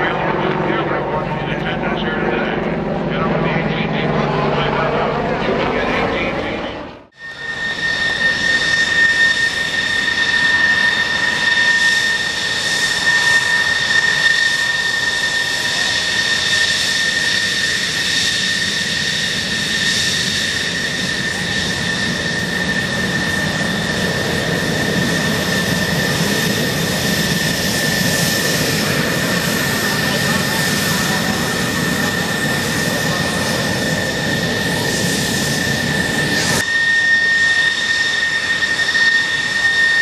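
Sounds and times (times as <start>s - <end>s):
deep jet exhaust rumble: 0.0s - 40.0s
jet engine whine: 0.0s - 40.0s
jet roar: 0.0s - 40.0s.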